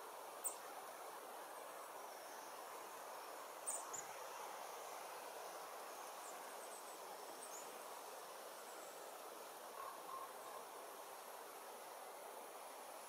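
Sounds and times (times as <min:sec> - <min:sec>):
faint outdoor background hiss: 0:00.0 - 0:13.0.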